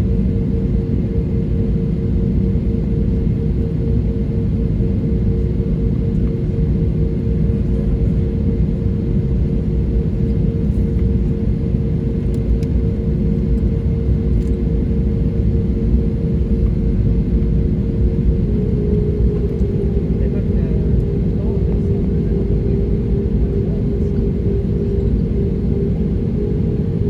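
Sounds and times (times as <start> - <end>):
jet airliner engine rumble: 0.0 - 27.0.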